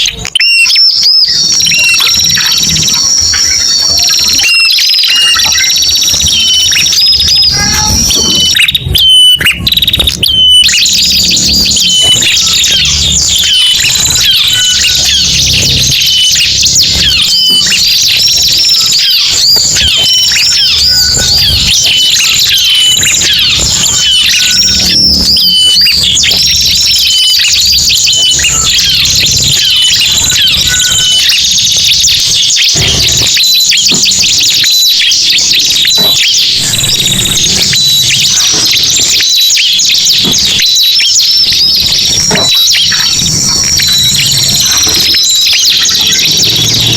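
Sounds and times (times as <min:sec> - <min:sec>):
birds chirping and whistling: 0:00.0 - 0:46.9.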